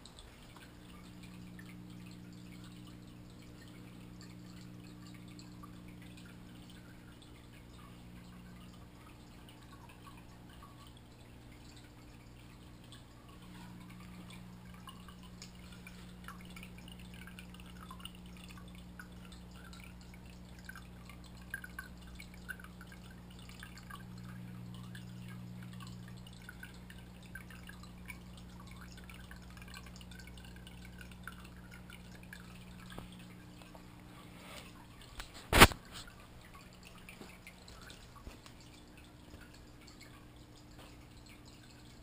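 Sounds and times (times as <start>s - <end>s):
underwater low hum: 0.0s - 35.1s
water dripping and bubbling: 0.0s - 42.0s.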